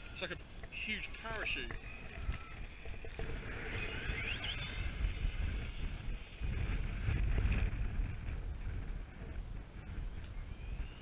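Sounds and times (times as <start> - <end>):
electric motor whining: 0.0 - 11.0
wind buffeting microphone: 0.0 - 11.0.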